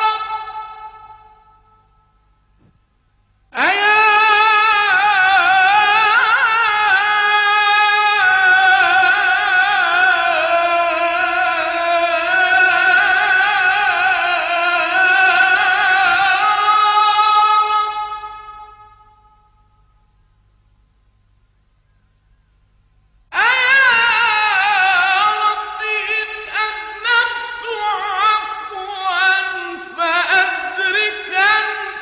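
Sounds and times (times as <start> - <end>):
person singing a melismatic vowel: 0.0 - 1.8, 3.5 - 19.3, 23.3 - 32.0.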